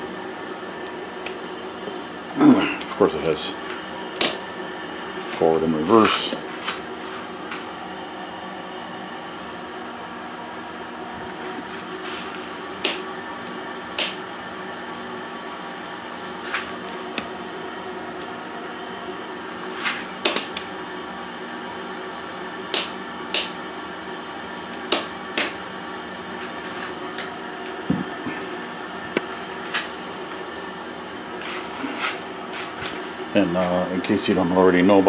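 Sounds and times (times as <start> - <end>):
lathe motor hum: 0.0 - 35.0.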